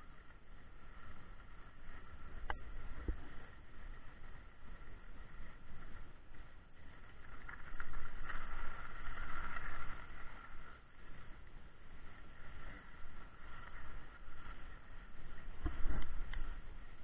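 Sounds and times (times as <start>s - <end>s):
sliding over snow: 0.0s - 17.0s
wind on camera microphone: 0.0s - 17.0s.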